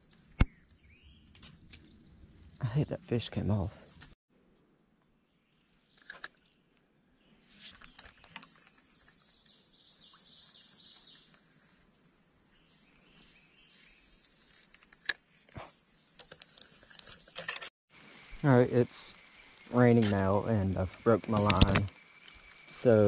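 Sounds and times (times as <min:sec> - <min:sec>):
birds chirping in trills: 0:00.0 - 0:04.2, 0:07.2 - 0:11.8, 0:12.4 - 0:23.0.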